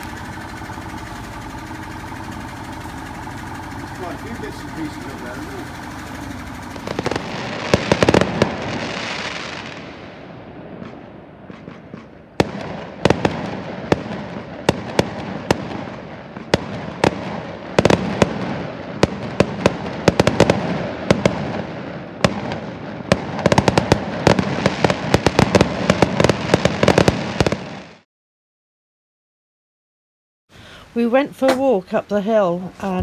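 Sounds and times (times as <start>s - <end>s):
echoing rumble: 0.0s - 27.7s
fireworks bangs and crackles: 0.0s - 28.0s.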